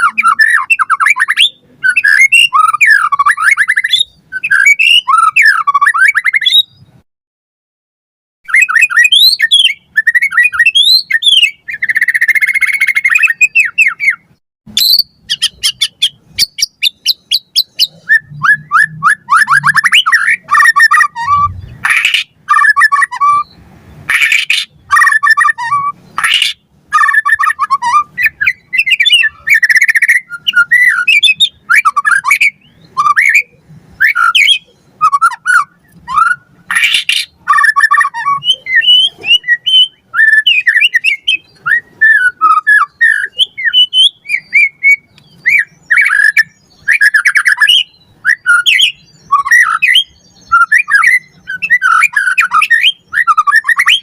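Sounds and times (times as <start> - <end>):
songbird singing varied song: 0.0 - 7.0, 8.5 - 54.0.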